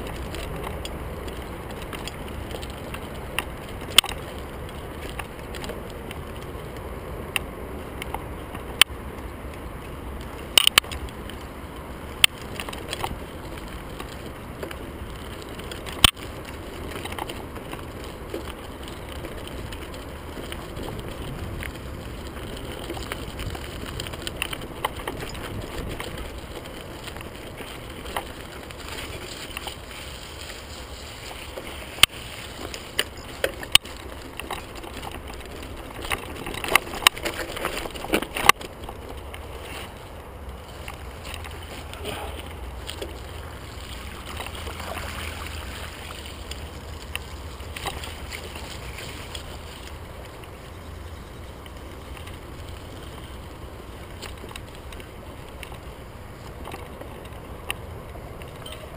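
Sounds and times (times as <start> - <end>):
bike tyres rumbling on gravel: 0.0 - 58.9
bike clacking and rattling: 7.4 - 58.9.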